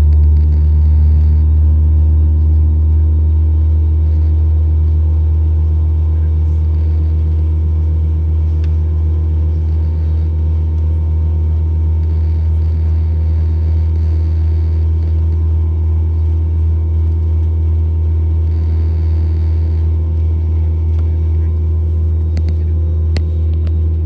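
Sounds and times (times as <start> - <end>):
jet engines idling rumble: 0.0 - 24.0.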